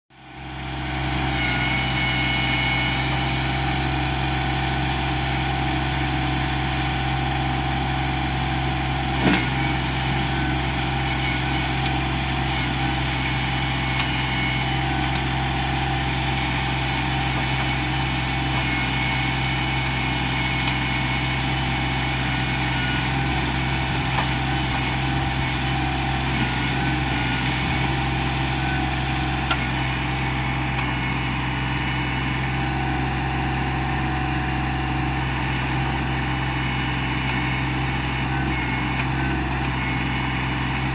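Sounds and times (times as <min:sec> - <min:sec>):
diesel tractor engine running: 0:00.1 - 0:40.9.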